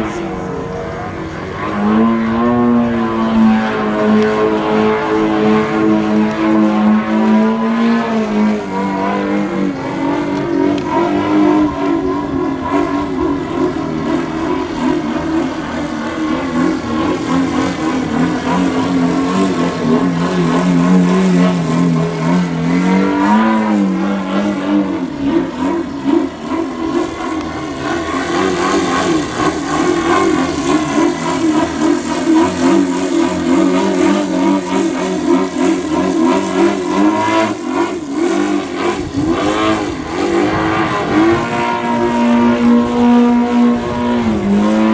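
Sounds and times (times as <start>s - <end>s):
model plane engine in flight: 0.0s - 44.9s.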